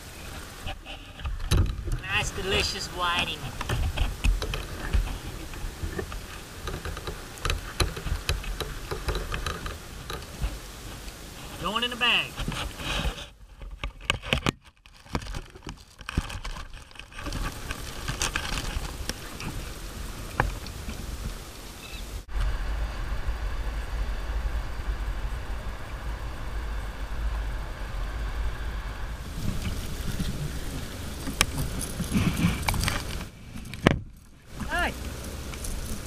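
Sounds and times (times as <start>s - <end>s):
wind buffeting microphone: 0.0s - 11.6s, 17.2s - 36.0s.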